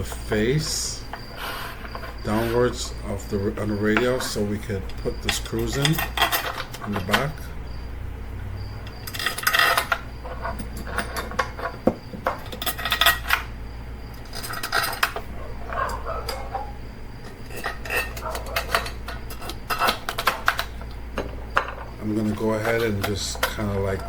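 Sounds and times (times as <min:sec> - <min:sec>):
metal and plastic parts clattering: 0:00.0 - 0:07.5, 0:09.0 - 0:13.5, 0:14.2 - 0:24.0.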